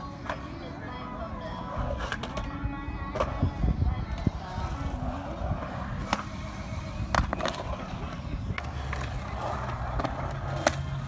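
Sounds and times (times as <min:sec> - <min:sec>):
skateboard wheels rumbling on concrete: 0:00.0 - 0:11.0.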